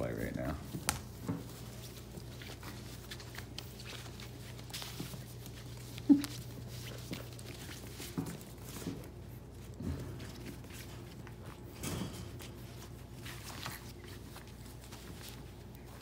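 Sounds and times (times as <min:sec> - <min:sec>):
paws pattering on floor: 0:00.0 - 0:16.0
puppies scuffling: 0:00.0 - 0:16.0.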